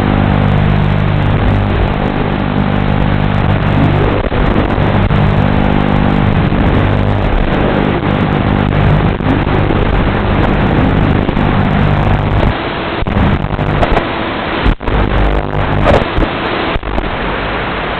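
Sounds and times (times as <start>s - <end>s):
drone motors whining: 0.0s - 17.4s
low hum: 0.0s - 17.9s.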